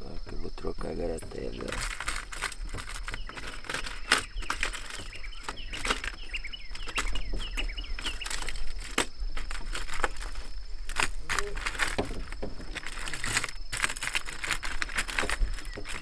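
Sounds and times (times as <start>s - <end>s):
bird chirping: 0.0s - 13.8s, 15.1s - 16.0s
fishing tackle clicks and knocks: 1.2s - 16.0s.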